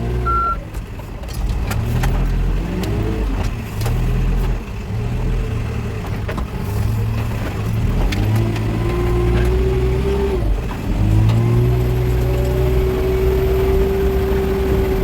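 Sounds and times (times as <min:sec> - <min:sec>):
backhoe diesel engine working: 0:00.0 - 0:15.0.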